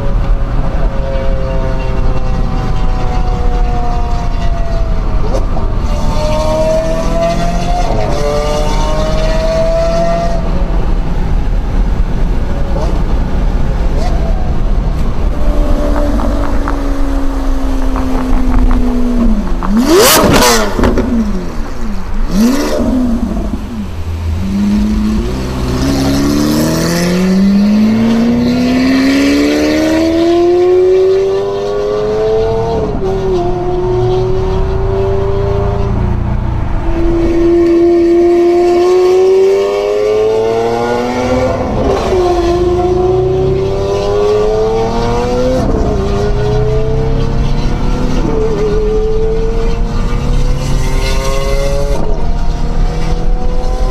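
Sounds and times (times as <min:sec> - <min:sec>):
sports car engine accelerating: 0:00.0 - 0:53.9.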